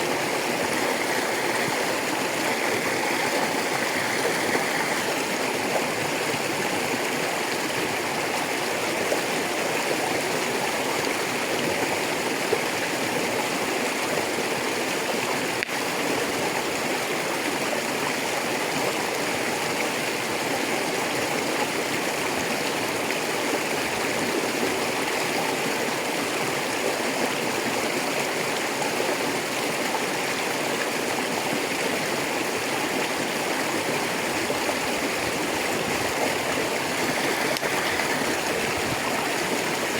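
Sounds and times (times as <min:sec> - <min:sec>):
river running over rocks: 0:00.0 - 0:39.9.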